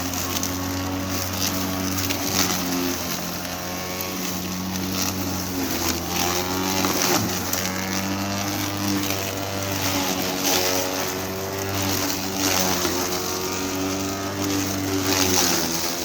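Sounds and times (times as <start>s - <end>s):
crackles of cut material: 0.0s - 16.0s
electric lawnmower humming: 0.0s - 16.0s.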